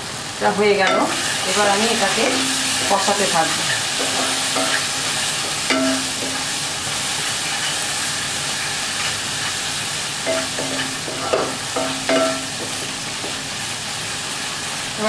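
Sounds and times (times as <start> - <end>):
sauce sizzling in oil: 0.0 - 15.0.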